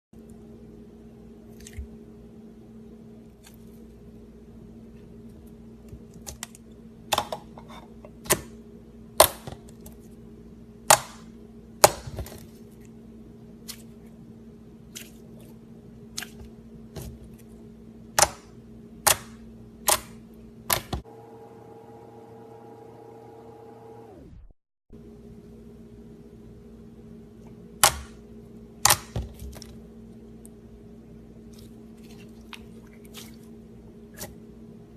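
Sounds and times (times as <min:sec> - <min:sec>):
steady low hum: 0:00.2 - 0:34.9.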